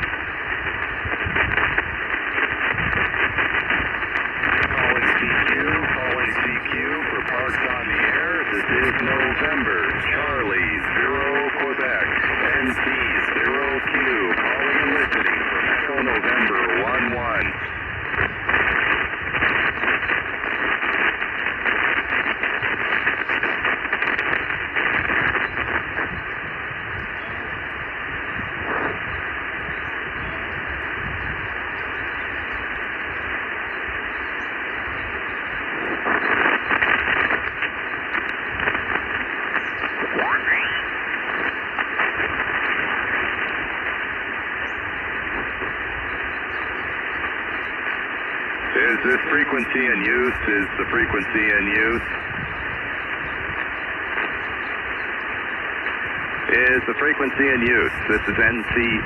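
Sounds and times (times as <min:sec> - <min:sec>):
faint garbled radio signals: 0:00.0 - 0:59.0
radio hiss: 0:00.0 - 0:59.0.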